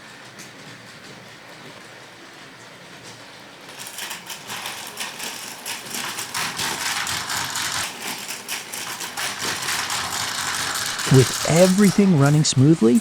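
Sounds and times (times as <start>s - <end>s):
toy train rattling on track: 0.2s - 13.0s.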